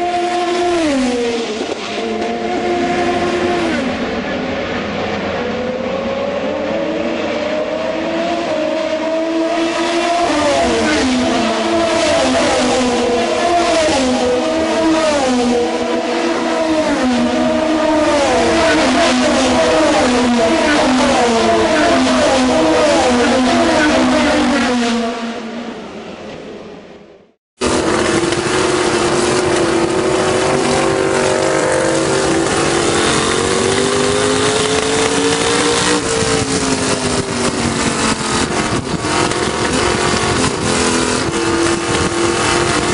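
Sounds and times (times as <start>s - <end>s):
race car engines shifting gears: 0.0s - 25.4s, 27.6s - 42.9s.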